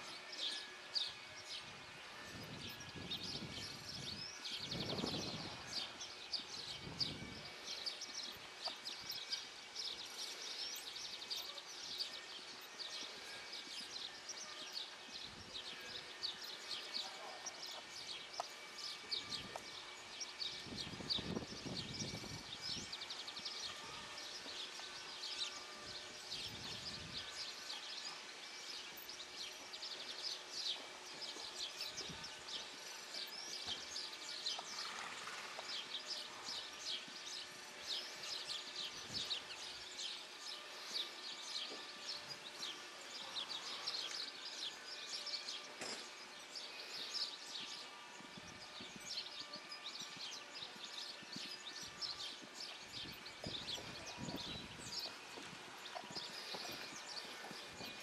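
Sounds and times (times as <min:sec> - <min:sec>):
birds chirping and singing: 0:00.0 - 0:58.0
outdoor background noise: 0:00.0 - 0:58.0.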